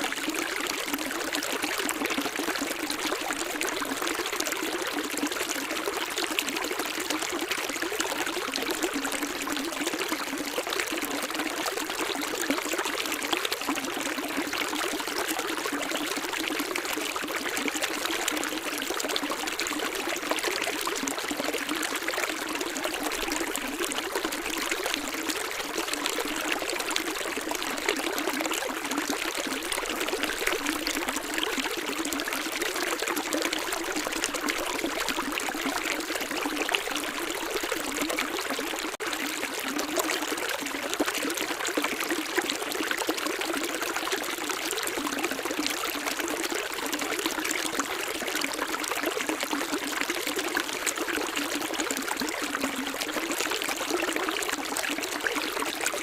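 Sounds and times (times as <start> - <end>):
small stream trickling: 0.0 - 56.0.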